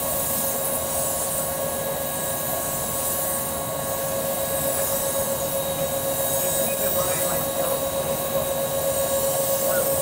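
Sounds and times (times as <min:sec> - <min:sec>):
steady machine whine: 0:00.0 - 0:10.0.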